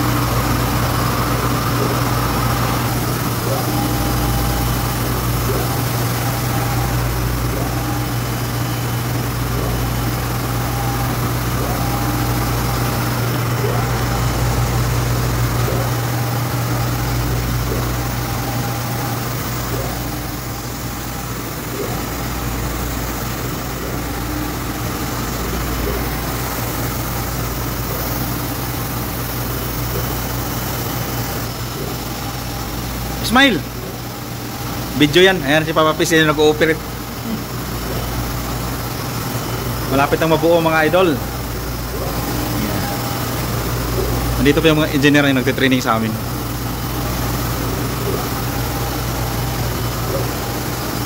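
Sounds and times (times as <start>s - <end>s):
print carriage motor whine: 0.0s - 51.0s
printer machine hum: 0.0s - 51.0s.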